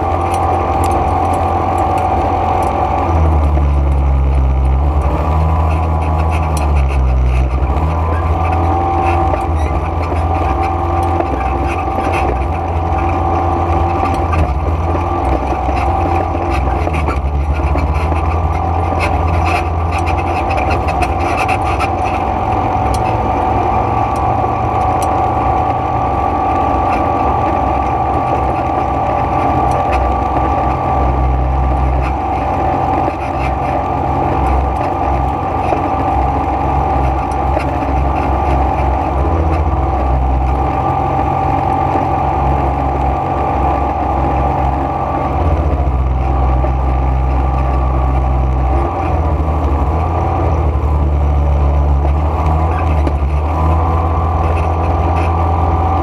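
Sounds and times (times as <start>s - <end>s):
quad bike engine droning: 0.0s - 56.0s.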